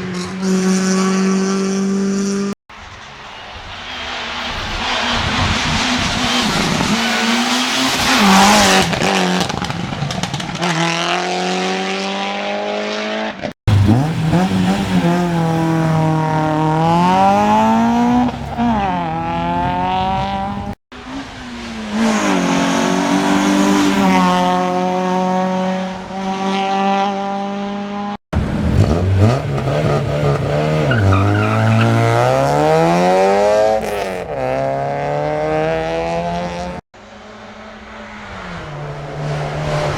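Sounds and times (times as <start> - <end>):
race cars accelerating past: 0.0 - 39.9.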